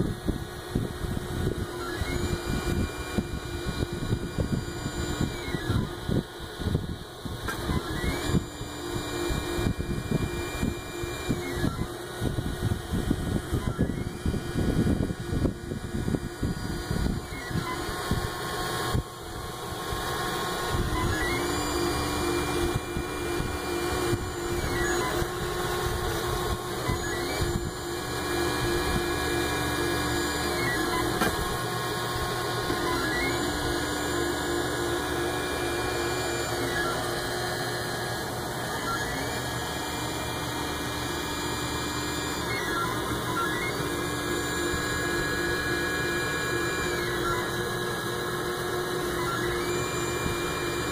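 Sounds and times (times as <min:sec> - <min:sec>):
stepper motors whining: 0:00.0 - 0:50.9.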